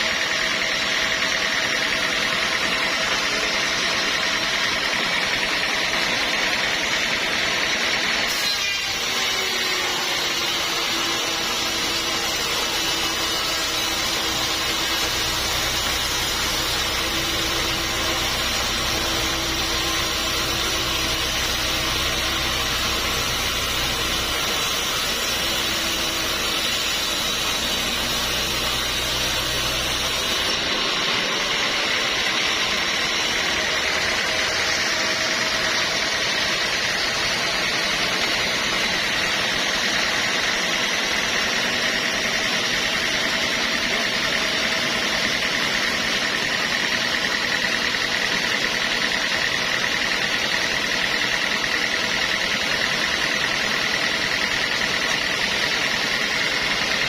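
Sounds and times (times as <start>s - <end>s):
engine running: 0.0s - 8.3s, 9.1s - 57.0s
saw cutting through log: 0.0s - 57.0s.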